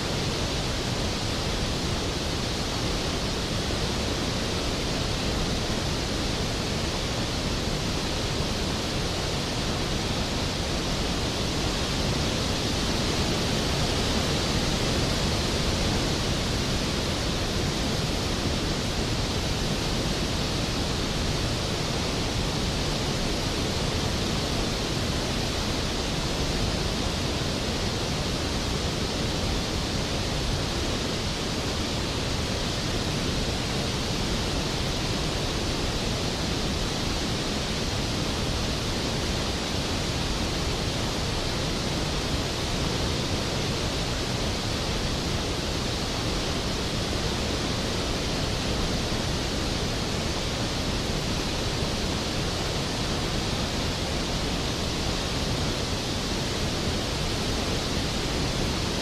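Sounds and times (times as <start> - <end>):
waterfall roar: 0.0 - 59.0.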